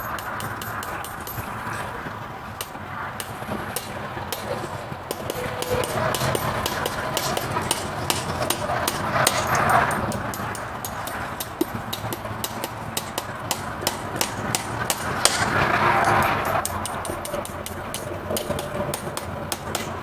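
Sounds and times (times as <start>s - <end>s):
steady scraping: 0.0s - 20.0s
tools tapping on horseshoe: 0.0s - 20.0s.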